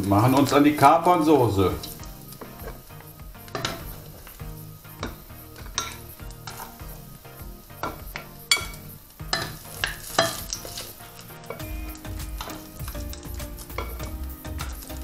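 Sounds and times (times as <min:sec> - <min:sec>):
oil sizzling: 0:00.0 - 0:15.0
utensils scraping a frying pan: 0:00.0 - 0:15.0.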